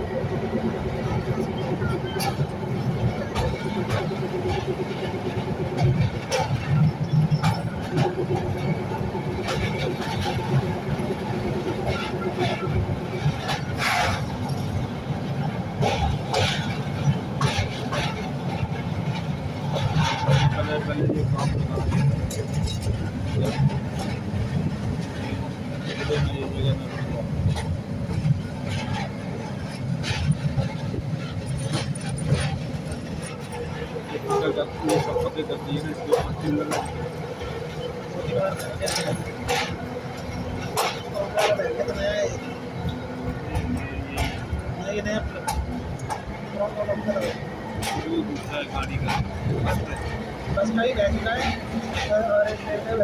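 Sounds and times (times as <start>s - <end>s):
train rumbling on track: 0.0s - 53.0s
wheels clacking over rail joints: 0.0s - 53.0s.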